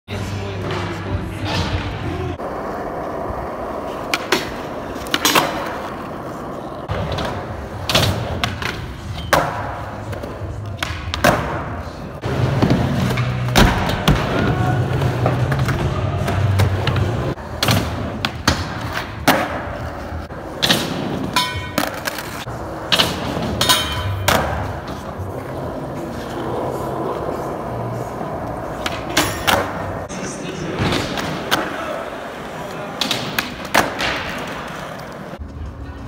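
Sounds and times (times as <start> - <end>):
skateboard wheels rolling on concrete: 0.1 - 36.0.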